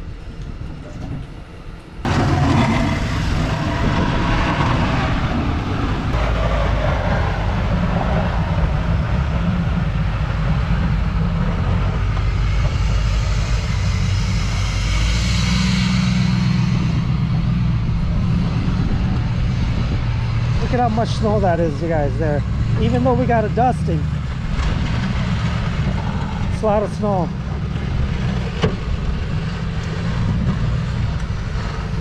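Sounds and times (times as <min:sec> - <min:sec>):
truck engine rumbling: 0:01.9 - 0:32.0.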